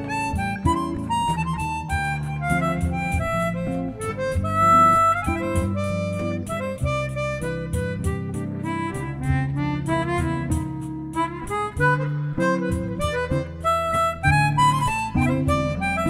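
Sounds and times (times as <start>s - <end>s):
bossa nova accompaniment: 0.0s - 16.0s
chromatic harmonica jazz solo: 0.0s - 16.0s.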